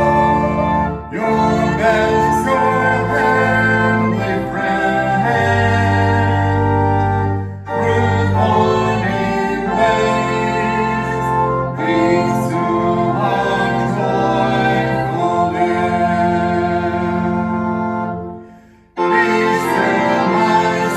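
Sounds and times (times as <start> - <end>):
church singing with accompaniment: 0.0 - 20.9.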